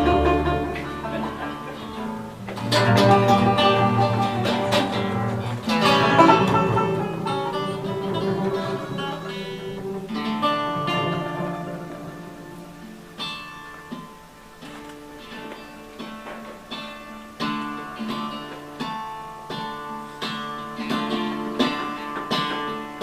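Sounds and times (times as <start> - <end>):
acoustic guitar chords: 0.0 - 23.0.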